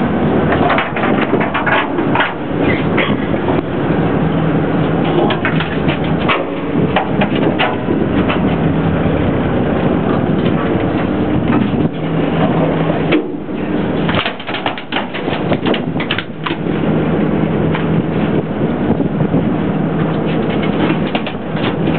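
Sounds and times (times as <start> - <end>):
boat engine humming: 0.0 - 21.9
rushing wind: 0.0 - 21.9.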